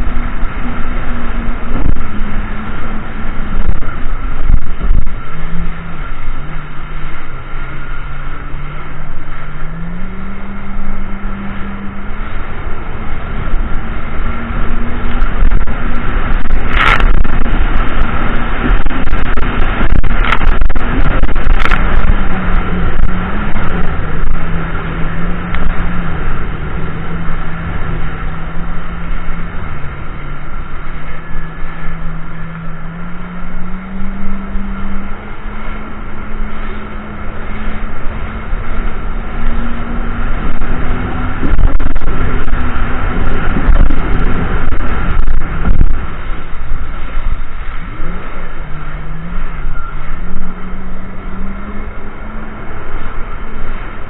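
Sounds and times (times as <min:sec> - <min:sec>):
jet ski engine running: 0:00.0 - 0:54.0
wind and water noise: 0:00.0 - 0:54.0.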